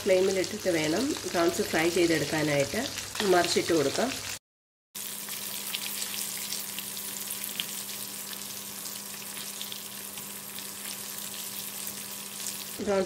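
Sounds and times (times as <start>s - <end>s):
prawns deep-frying in hot oil: 0.0s - 4.4s, 5.0s - 13.0s.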